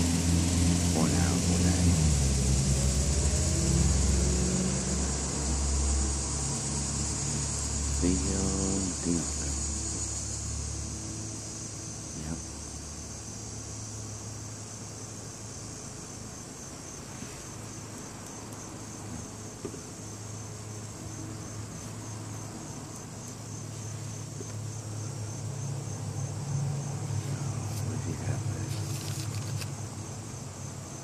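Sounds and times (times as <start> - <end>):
crickets chirping: 0.0 - 31.0
low engine rumble: 0.0 - 31.0.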